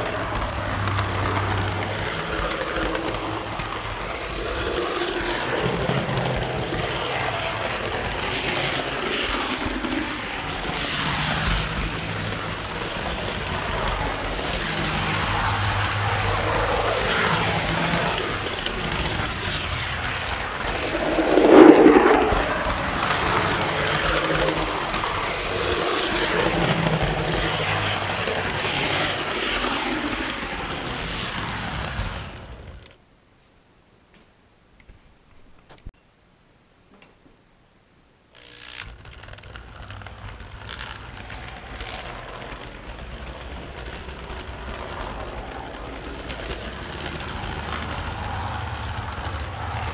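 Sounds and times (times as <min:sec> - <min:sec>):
model train wheels rattling: 0:00.0 - 0:32.9, 0:38.4 - 0:49.9.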